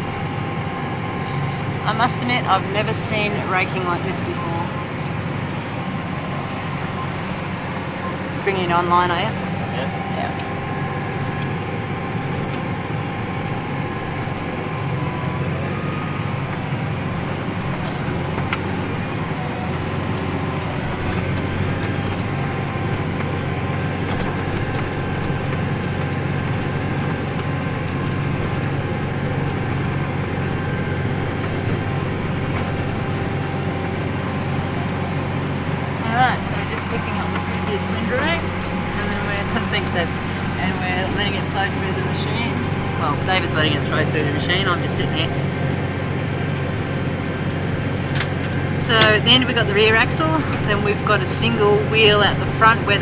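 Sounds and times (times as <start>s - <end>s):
tractor engine drone: 0.0s - 53.0s.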